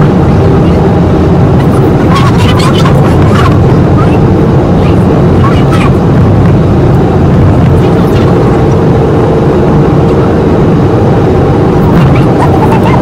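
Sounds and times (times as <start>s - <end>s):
vehicle running rumble: 0.0s - 13.0s.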